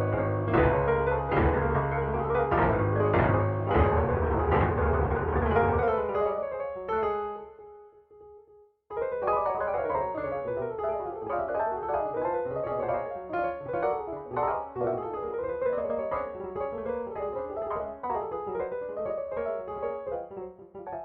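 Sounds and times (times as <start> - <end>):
piano chords and bass line: 0.0 - 7.7, 8.9 - 21.0.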